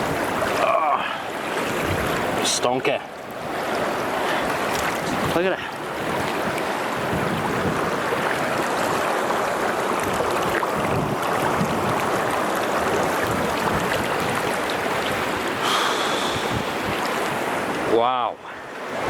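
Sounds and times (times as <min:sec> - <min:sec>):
river water rushing over stones: 0:00.0 - 0:19.0.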